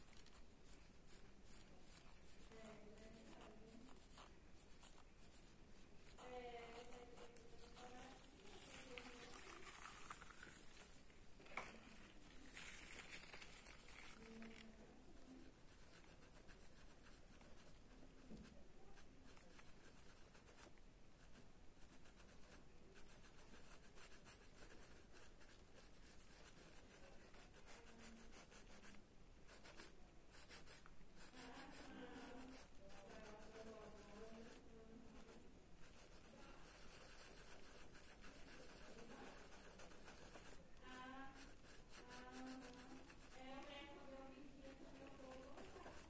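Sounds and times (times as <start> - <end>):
pencil scratching on paper: 0.0 - 46.0.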